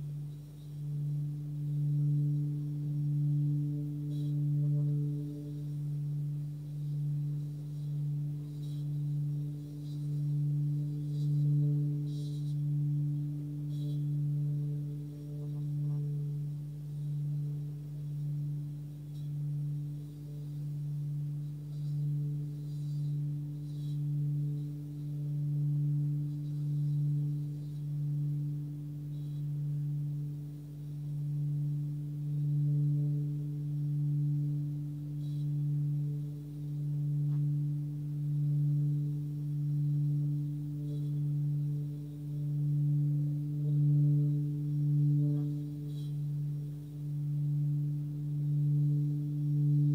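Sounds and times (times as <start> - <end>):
singing bowl hum: 0.0 - 49.9.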